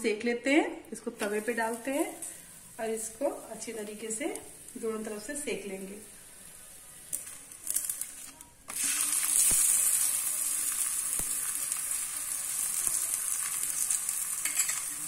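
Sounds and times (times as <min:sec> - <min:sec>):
oil sizzling on a hot griddle: 0:01.2 - 0:15.0.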